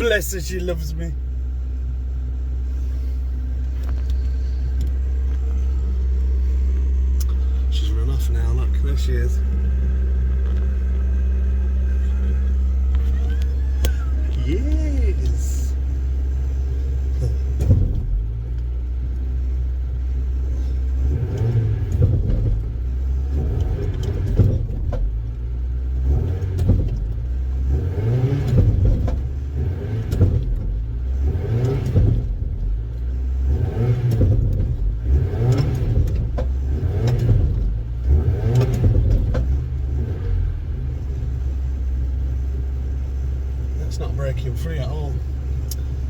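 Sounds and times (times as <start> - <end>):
engine revving in surges: 2.7 - 25.2, 25.8 - 42.0.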